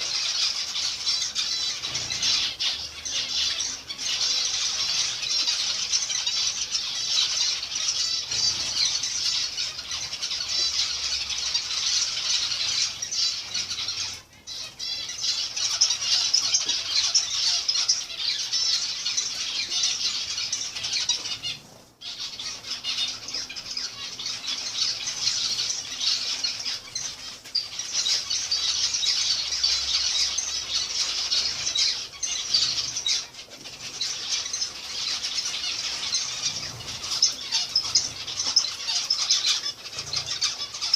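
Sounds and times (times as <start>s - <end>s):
finches calling: 0.0s - 40.9s.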